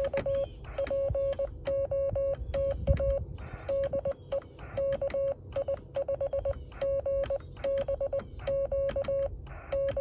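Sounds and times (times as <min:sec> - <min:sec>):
keying clicks: 0:00.0 - 0:10.0
morse code tone: 0:00.0 - 0:10.0.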